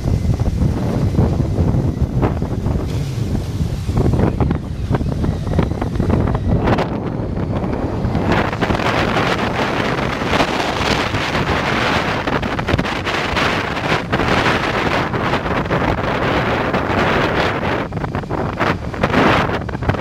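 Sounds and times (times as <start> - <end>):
motorcycle engines: 0.0 - 20.0
road noise: 0.0 - 20.0
wind buffeting microphone: 0.0 - 20.0.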